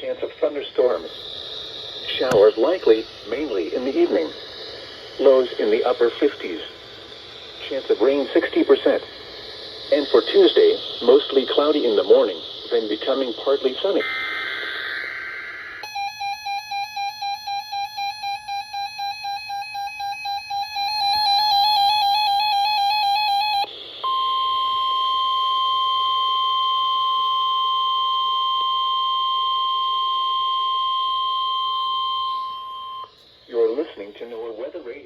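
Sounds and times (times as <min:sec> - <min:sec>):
steady warning alarm tone: 0:00.0 - 0:35.0
two-tone data burst: 0:00.1 - 0:34.2.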